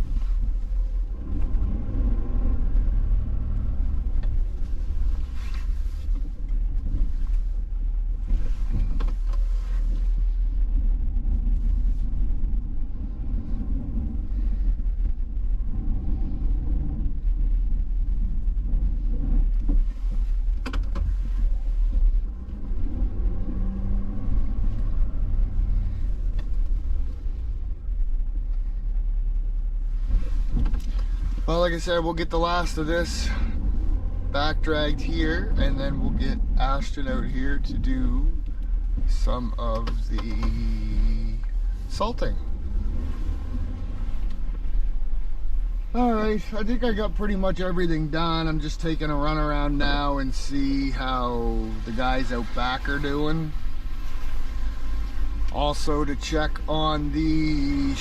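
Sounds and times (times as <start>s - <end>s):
truck engine and road rumble: 0.0s - 58.0s.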